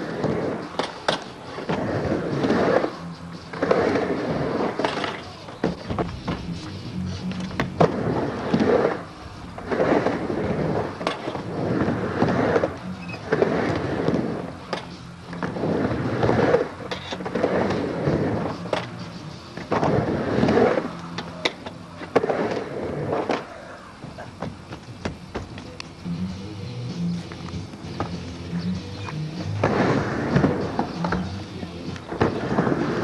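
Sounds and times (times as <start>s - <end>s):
sharp skateboard clacks: 0.0s - 26.0s, 28.9s - 33.0s
skateboard wheels rolling on ramp: 0.0s - 33.0s.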